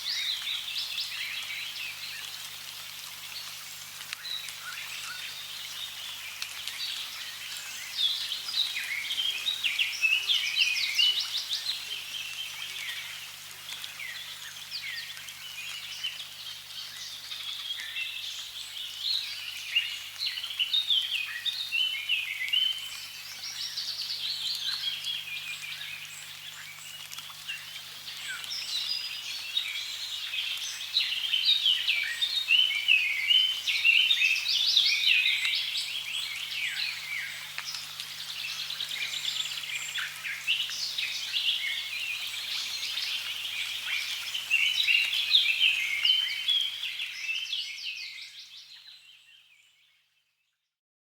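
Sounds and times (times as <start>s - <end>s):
faint background hiss: 0.0s - 49.7s
small birds chirping and trilling: 0.0s - 50.6s.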